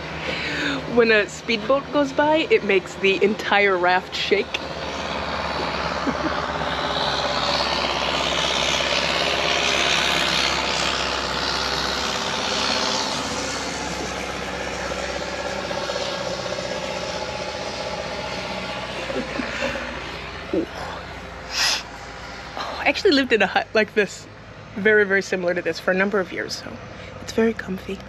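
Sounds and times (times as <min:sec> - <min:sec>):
speedboat engine passing: 0:00.0 - 0:28.0.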